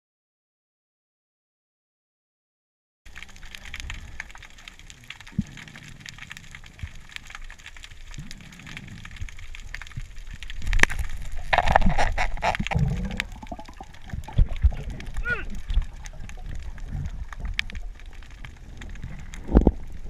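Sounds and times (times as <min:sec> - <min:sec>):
underwater clicking crackle: 0:03.1 - 0:20.0
water rushing and sloshing: 0:03.2 - 0:20.0.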